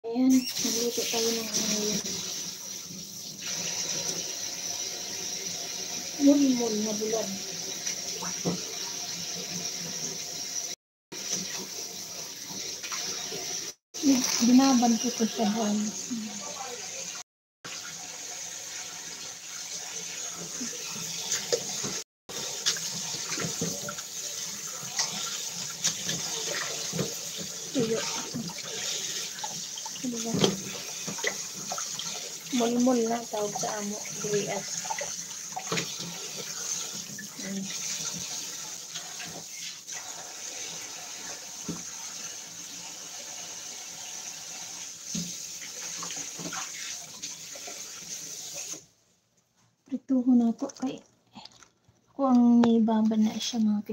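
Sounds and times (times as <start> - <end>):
fish rubbed and rinsed by hand: 0.1 - 51.9.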